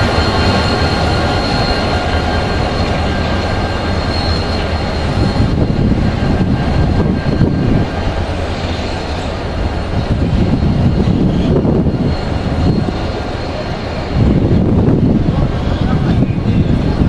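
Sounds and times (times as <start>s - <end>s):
diesel locomotive engines running: 0.0s - 17.0s.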